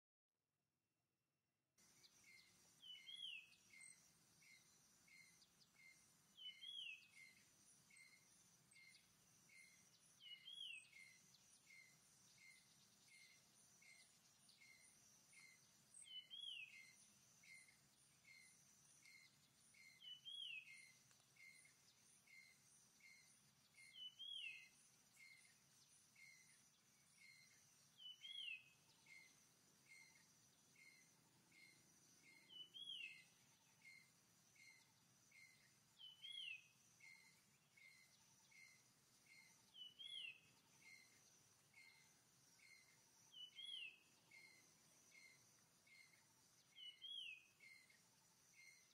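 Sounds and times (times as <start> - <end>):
high insect hum: 1.8 - 48.9.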